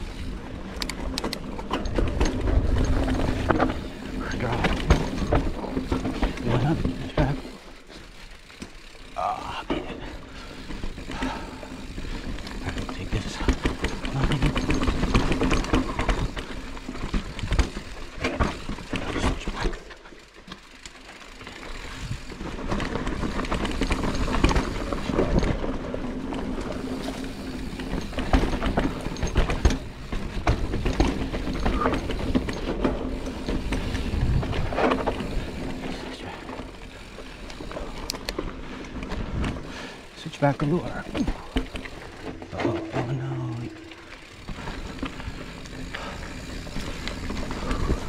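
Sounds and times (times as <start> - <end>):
bike frame clattering and rattling: 0.0 - 48.0
bike tyres crunching over stones: 0.0 - 48.0.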